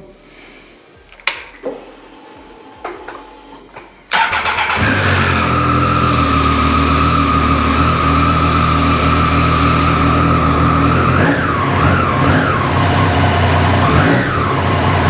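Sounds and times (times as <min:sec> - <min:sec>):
motorcycle engine starting and idling: 0:01.2 - 0:15.0.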